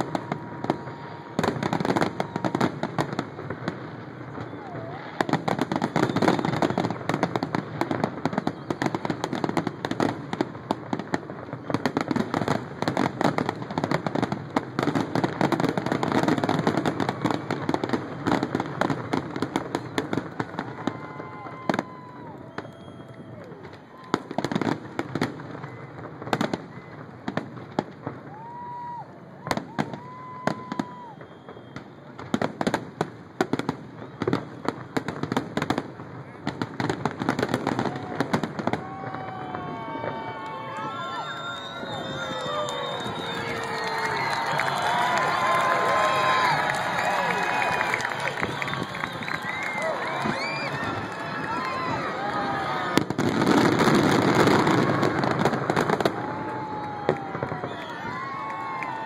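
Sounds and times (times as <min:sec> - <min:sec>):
fireworks barrage: 0:00.0 - 0:59.0.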